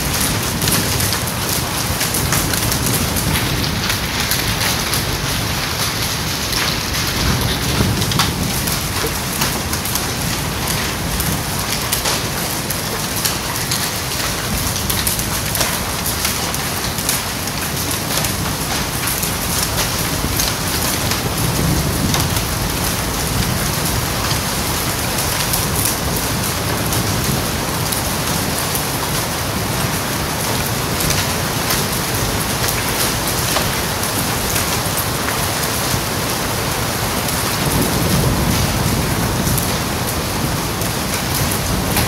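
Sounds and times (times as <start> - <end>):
hail striking ground: 0.0 - 42.0.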